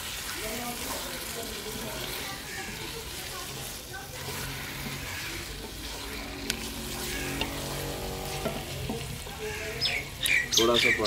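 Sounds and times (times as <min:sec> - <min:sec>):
sauce sizzling: 0:00.0 - 0:11.0
wooden spatula stirring in metal pot: 0:00.0 - 0:11.0.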